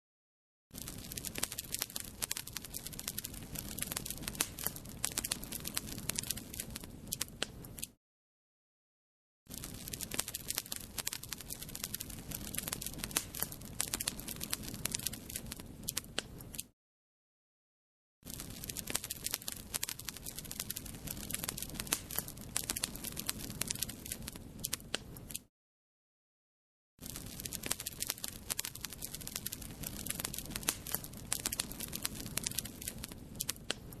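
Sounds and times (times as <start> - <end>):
low rumble of flame: 0.8 - 7.7, 9.5 - 16.4, 18.3 - 25.2, 27.0 - 34.0
fire crackling and popping: 0.8 - 7.9, 9.5 - 16.7, 18.3 - 25.5, 27.0 - 34.0.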